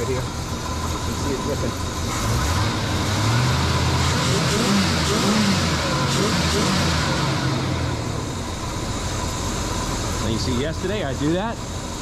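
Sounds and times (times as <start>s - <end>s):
car engine idling roughly: 0.0s - 12.0s
car engine revving: 0.0s - 12.0s.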